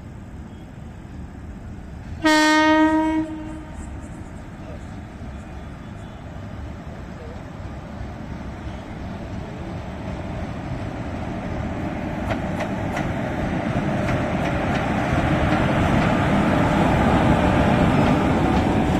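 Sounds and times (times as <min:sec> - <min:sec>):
train passing rumble: 0:00.0 - 0:18.9.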